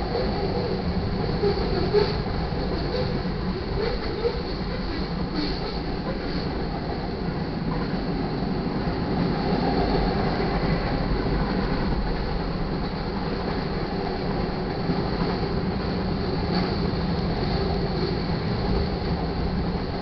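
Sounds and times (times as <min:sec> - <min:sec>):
freight train rolling past: 0:00.0 - 0:20.0
steel wheels on rails: 0:00.0 - 0:20.0.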